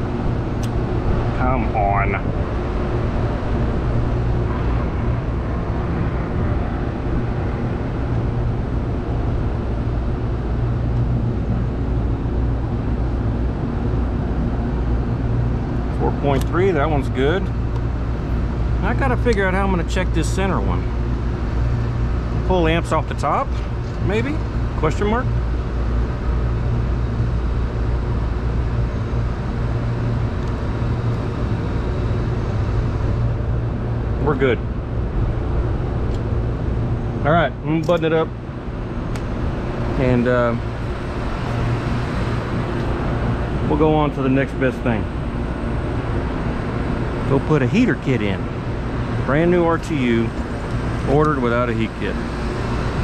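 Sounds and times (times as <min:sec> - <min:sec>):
condenser fans rushing: 0:00.0 - 0:53.0
low electrical hum: 0:00.0 - 0:53.0.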